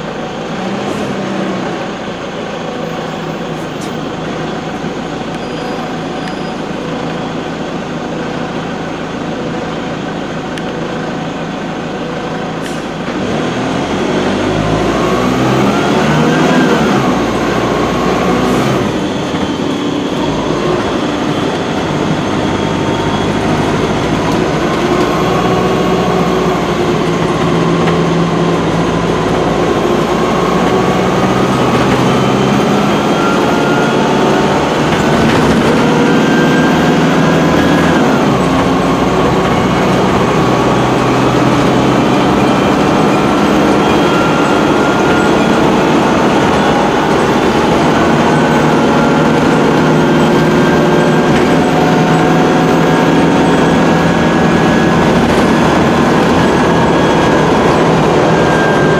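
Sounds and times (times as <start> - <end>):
bus diesel engine accelerating: 0.0 - 58.9.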